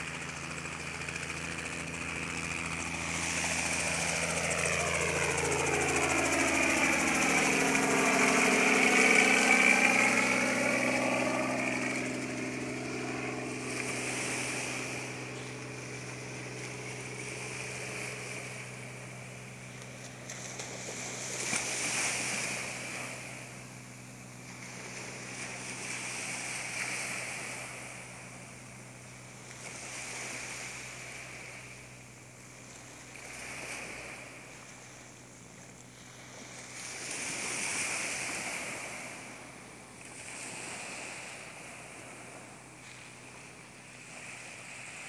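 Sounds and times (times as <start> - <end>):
waves breaking on a beach: 0.0 - 45.0.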